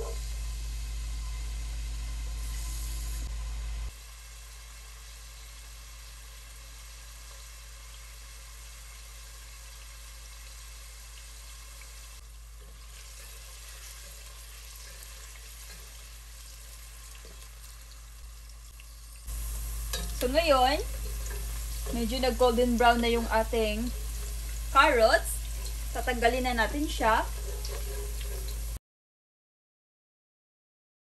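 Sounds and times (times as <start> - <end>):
carrots sizzling in hot oil: 0.0 - 28.8.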